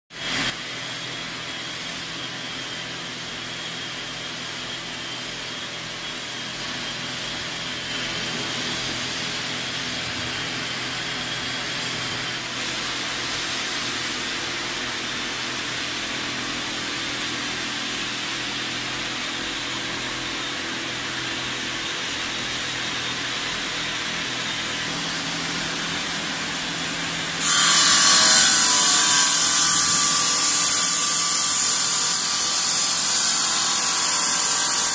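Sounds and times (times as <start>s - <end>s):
bridge saw sawing: 1.9s - 34.9s.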